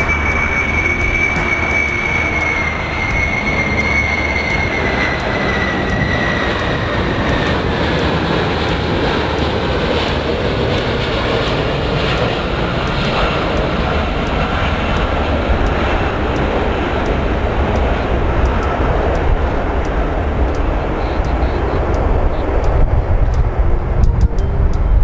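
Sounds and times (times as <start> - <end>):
airplane engine rush: 0.0 - 25.0
faint high whine: 0.0 - 25.0.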